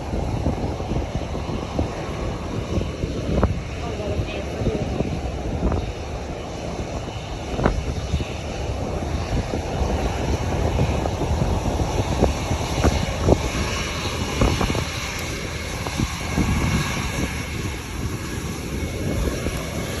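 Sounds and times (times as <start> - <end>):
high engine whine: 0.0 - 20.0
jet engines rumbling: 0.0 - 20.0.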